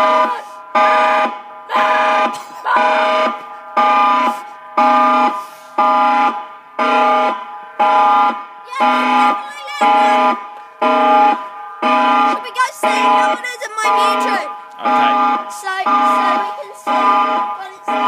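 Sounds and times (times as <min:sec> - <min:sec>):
warning siren pulsed alert: 0:00.0 - 0:18.0.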